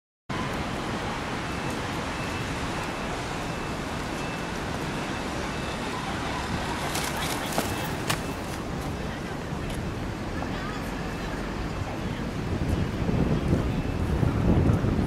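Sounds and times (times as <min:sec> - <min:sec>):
traffic hiss on wet roads: 0:00.3 - 0:15.0
wind rumbling on microphone: 0:00.3 - 0:15.0.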